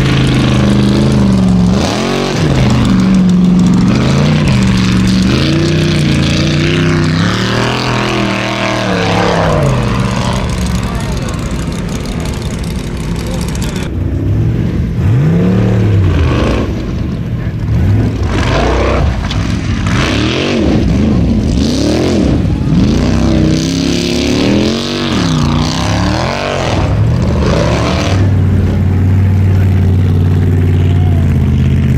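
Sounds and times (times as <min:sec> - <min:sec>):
buggy engine revving: 0:00.0 - 0:31.9.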